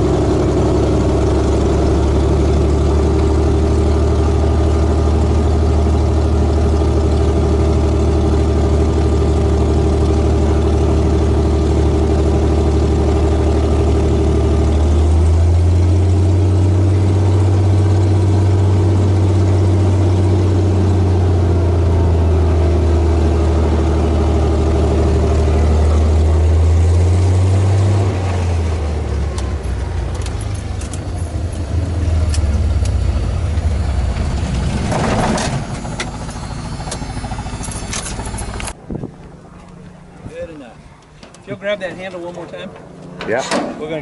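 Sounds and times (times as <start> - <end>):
propeller plane engine droning: 0.0 - 44.0.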